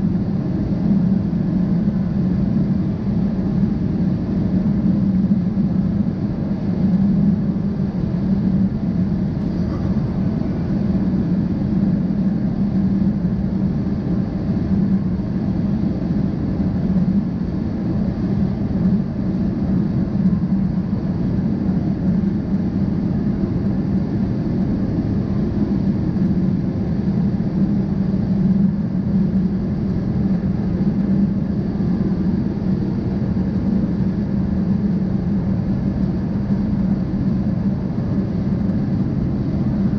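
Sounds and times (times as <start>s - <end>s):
jet engines and airflow drone: 0.0s - 39.9s.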